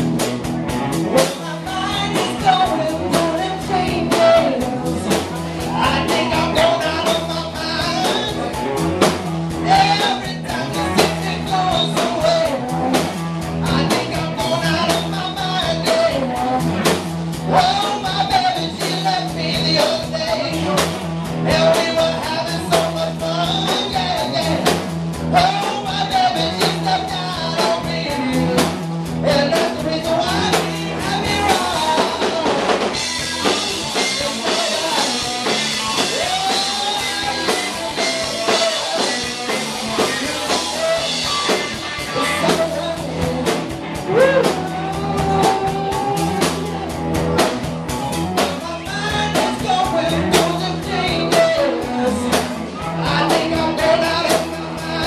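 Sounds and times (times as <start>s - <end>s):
electric guitar lead melody: 0.0s - 55.0s
live blues-rock band: 0.0s - 55.0s.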